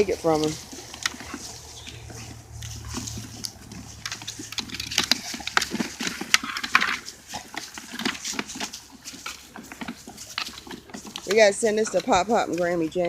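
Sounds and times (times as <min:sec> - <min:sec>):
dog breathing and grunting: 0:00.0 - 0:13.0
teeth scraping on plastic: 0:00.0 - 0:13.0.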